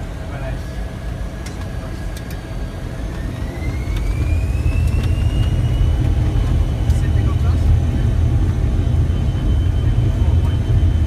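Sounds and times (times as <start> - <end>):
jet engine whine rising: 0.0 - 11.0
low engine rumble: 0.0 - 11.0.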